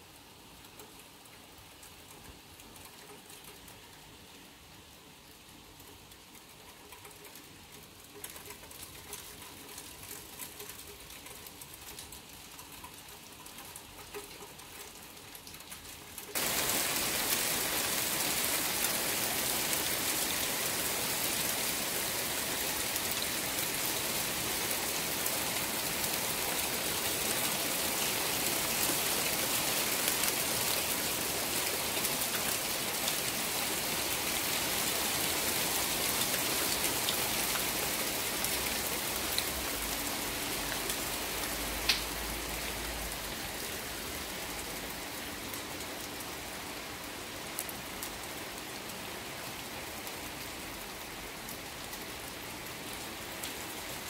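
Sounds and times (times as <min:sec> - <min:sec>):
steady rain on patio and lawn: 0:00.0 - 0:54.0.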